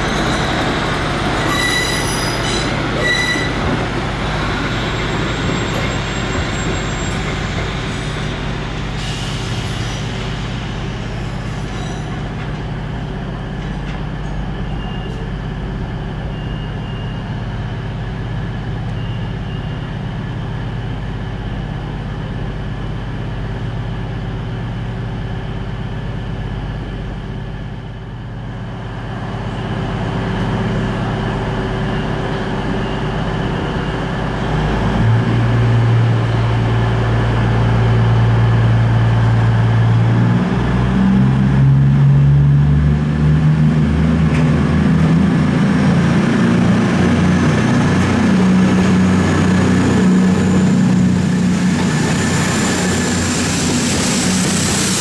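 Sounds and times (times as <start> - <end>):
diesel train engines humming: 0.0 - 55.0.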